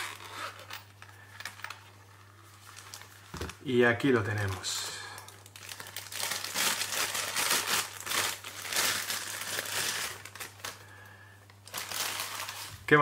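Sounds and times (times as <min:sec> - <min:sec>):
plastic bag crinkling: 0:00.0 - 0:11.0, 0:11.6 - 0:13.0.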